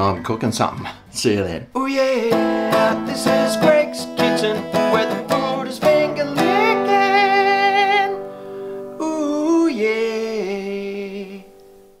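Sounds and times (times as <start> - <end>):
person singing with vibrato: 1.7 - 11.9.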